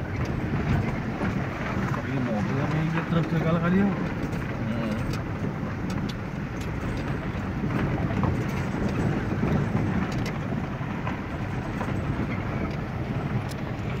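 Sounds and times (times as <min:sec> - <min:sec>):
tyres rumbling on rough road: 0:00.0 - 0:14.0.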